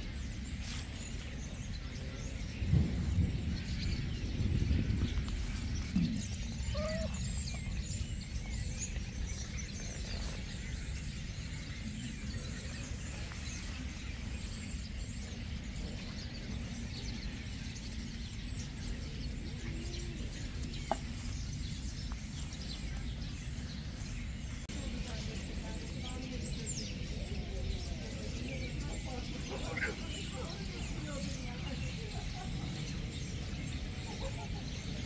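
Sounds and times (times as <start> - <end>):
small birds chirping: 0.0 - 35.0
steady low rumble: 0.0 - 35.0.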